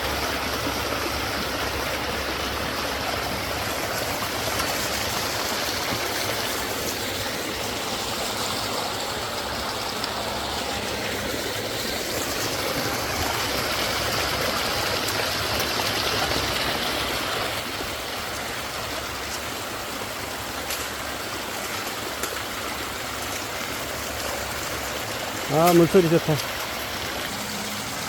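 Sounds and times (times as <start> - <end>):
waterfall rushing and splashing: 0.0 - 28.0.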